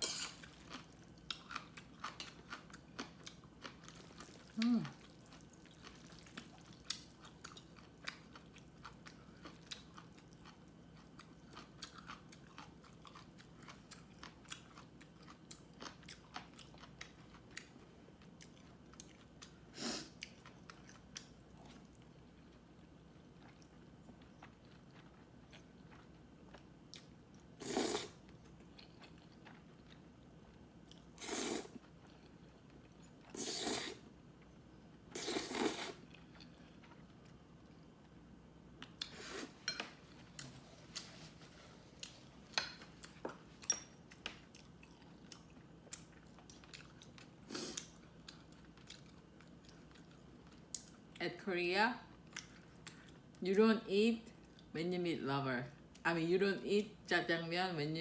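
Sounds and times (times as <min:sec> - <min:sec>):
person chewing food: 0:00.0 - 0:34.5, 0:35.2 - 0:38.2, 0:38.8 - 0:51.2, 0:52.1 - 0:53.4.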